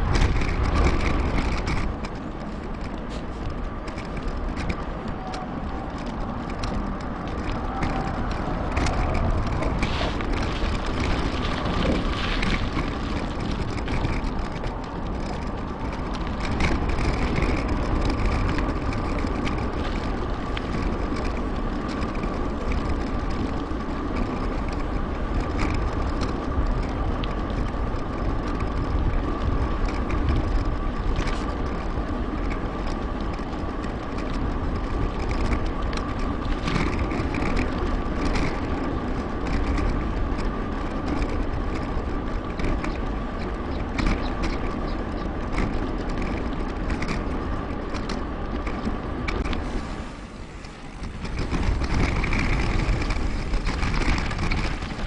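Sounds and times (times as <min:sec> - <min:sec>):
constant high hum: 0:00.0 - 0:55.0
tyre and drivetrain noise: 0:00.0 - 0:55.0
wind on microphone: 0:00.0 - 0:55.0.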